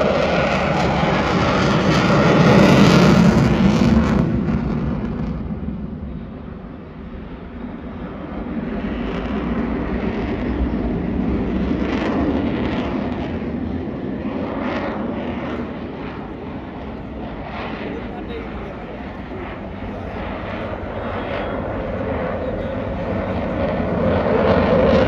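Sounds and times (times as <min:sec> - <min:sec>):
airplane flying by: 0:00.0 - 0:25.0.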